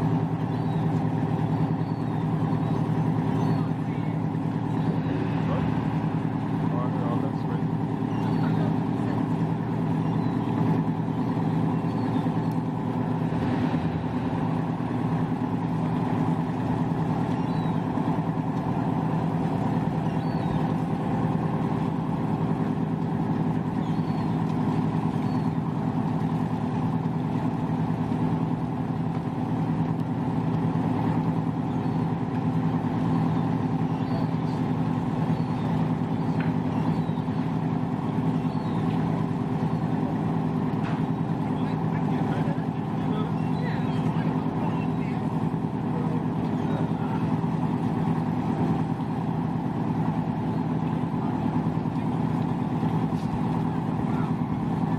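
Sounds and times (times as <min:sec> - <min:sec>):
boat engine idling: 0:00.0 - 0:54.9.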